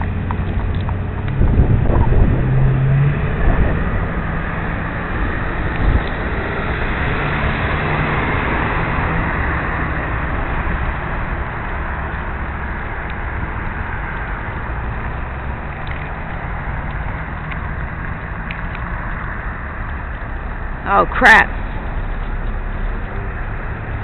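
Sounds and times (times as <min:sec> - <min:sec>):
low rumble: 0:00.0 - 0:20.9
wind roaring over microphone: 0:00.0 - 0:24.0.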